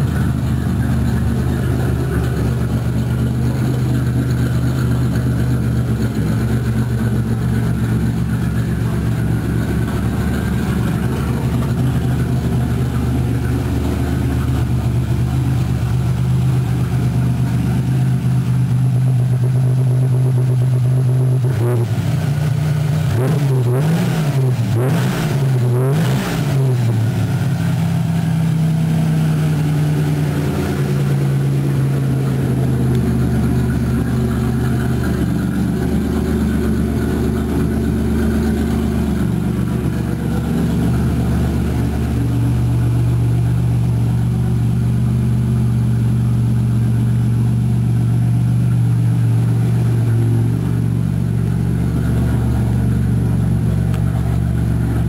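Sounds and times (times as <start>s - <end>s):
car engine idling: 0.0s - 55.0s
car engine revving: 0.0s - 55.0s.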